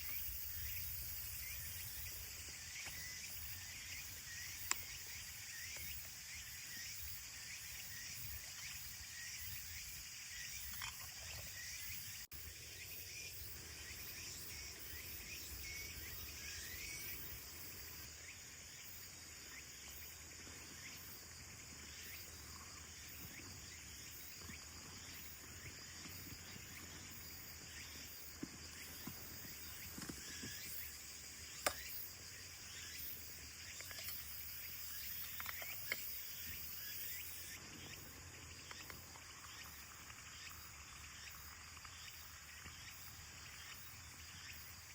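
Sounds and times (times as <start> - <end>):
insect chorus trilling: 0.0 - 44.9.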